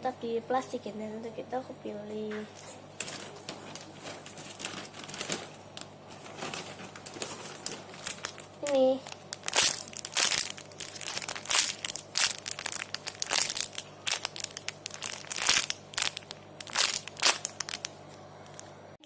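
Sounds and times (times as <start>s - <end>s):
plastic packaging crinkling: 2.6s - 18.8s.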